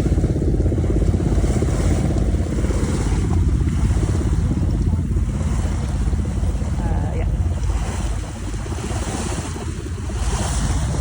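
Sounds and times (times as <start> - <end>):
ocean surf: 0.0 - 11.0
wind buffeting microphone: 0.0 - 11.0.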